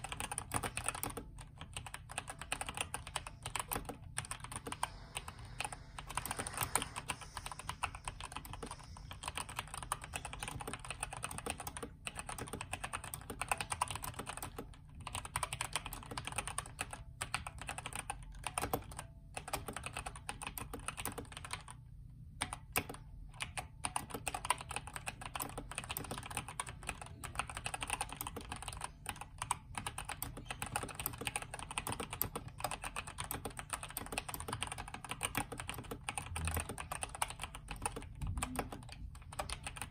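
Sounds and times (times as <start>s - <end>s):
mechanical keyboard typing: 0.0s - 21.8s, 22.4s - 39.9s.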